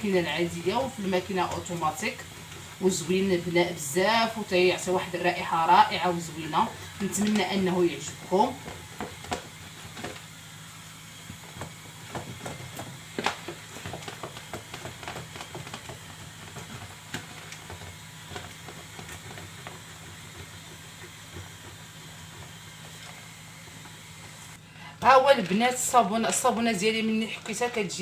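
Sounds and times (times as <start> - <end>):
soap scraping on grater: 0.0 - 24.5.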